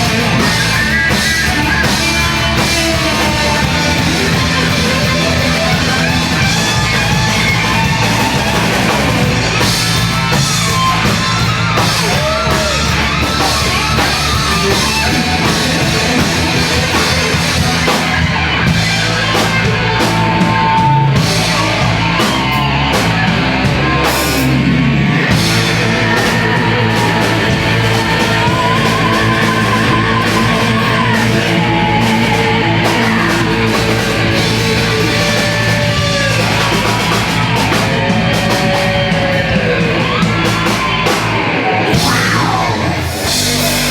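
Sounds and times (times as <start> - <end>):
band playing hardcore rock: 0.0 - 43.9.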